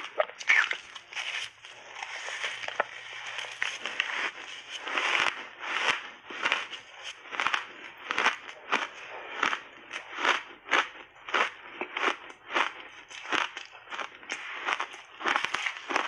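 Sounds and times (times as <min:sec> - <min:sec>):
chewing crunchy ice: 0:00.0 - 0:16.0.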